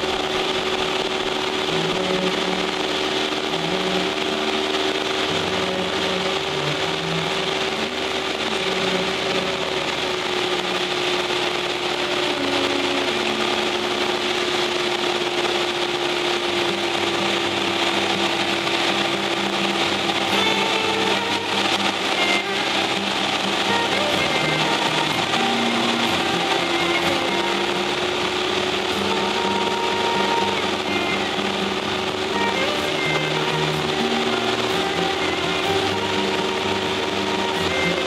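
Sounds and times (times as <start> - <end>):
propeller plane engine droning: 0.0 - 38.0.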